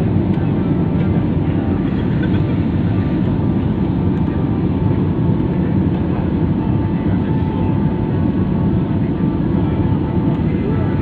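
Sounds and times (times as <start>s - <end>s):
airliner cabin drone: 0.0s - 11.0s
faint steady whine: 0.0s - 11.0s.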